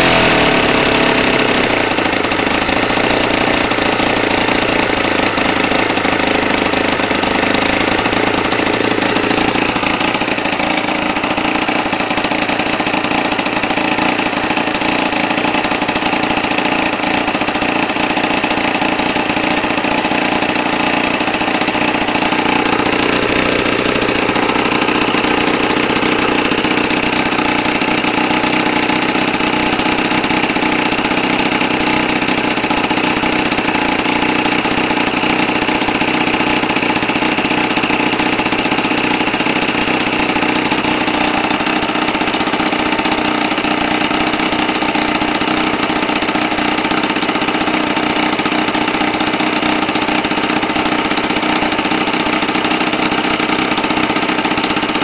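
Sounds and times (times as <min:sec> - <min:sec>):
model airplane engine running: 0:00.0 - 0:55.0.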